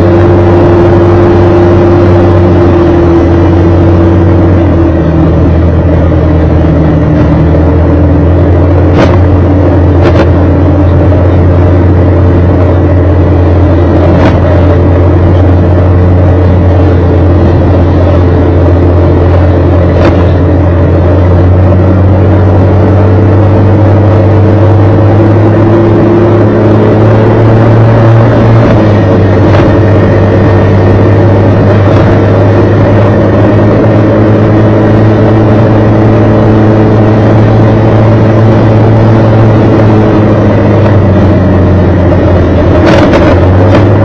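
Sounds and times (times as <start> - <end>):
vehicle engine running: 0.0 - 44.0
wind and road noise: 0.0 - 44.0.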